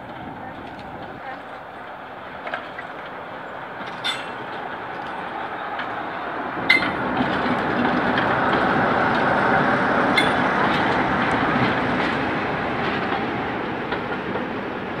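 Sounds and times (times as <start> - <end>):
diesel locomotive passing: 0.0 - 15.0
wheels clicking on track: 0.0 - 15.0.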